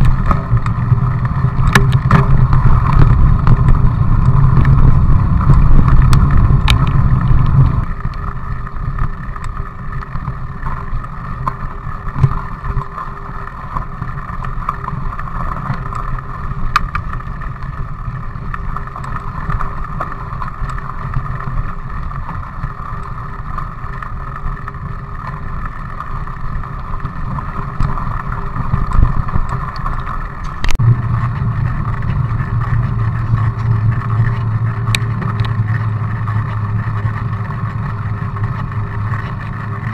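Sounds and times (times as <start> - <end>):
bike tyres rumbling on asphalt: 0.0 - 39.9
wind on microphone: 0.0 - 39.9.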